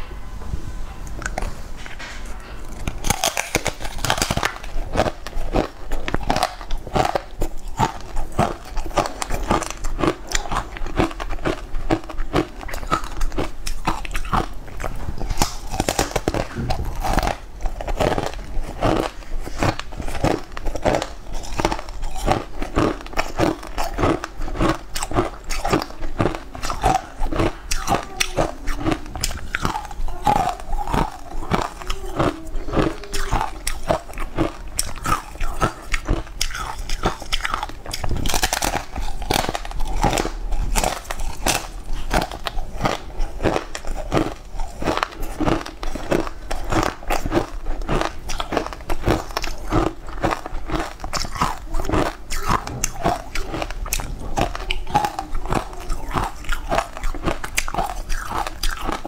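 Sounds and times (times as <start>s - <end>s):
crunching and chewing ice: 1.2s - 59.0s.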